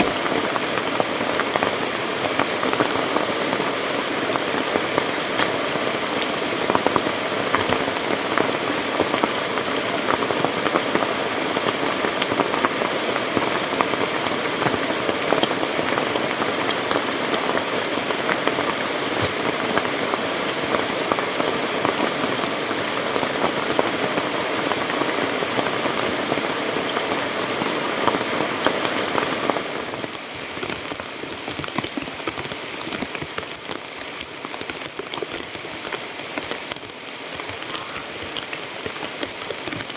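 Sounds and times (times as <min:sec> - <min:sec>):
rushing water with taps: 0:00.0 - 0:39.9.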